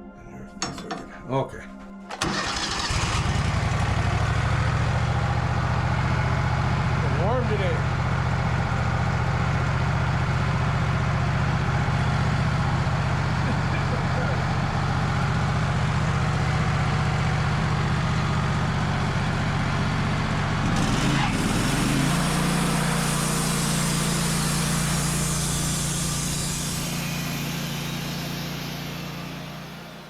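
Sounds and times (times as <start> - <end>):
sawmill engine running: 2.1 - 30.0.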